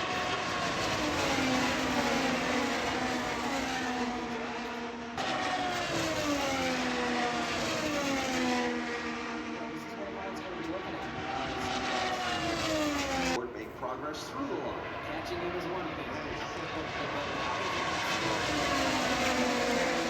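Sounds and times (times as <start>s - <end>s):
racing engines passing at speed: 0.0s - 20.0s.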